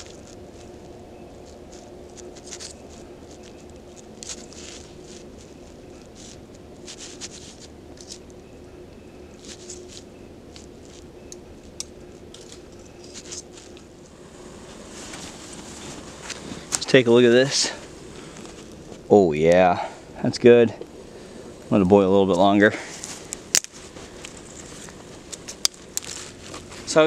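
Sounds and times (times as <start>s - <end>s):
faint steady hum: 0.0s - 27.0s
small stick fire crackling: 0.0s - 27.0s.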